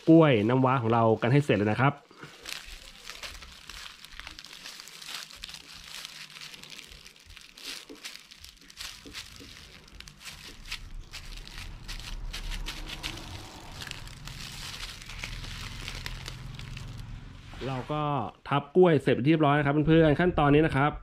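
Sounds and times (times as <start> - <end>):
plastic bag crinkling: 0.0 - 17.4.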